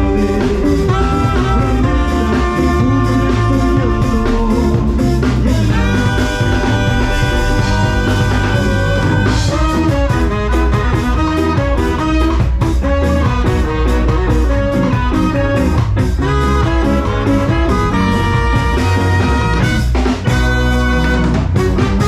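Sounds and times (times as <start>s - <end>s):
horn section: 0.0s - 22.0s
live reggae band playing: 0.0s - 22.0s.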